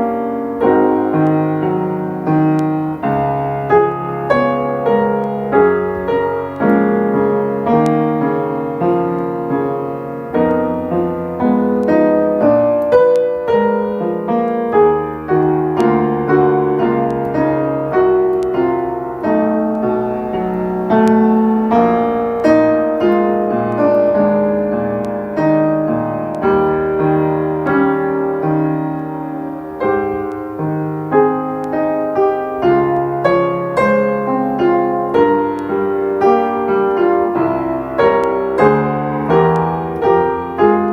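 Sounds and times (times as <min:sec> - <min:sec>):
solo piano: 0:00.0 - 0:40.9.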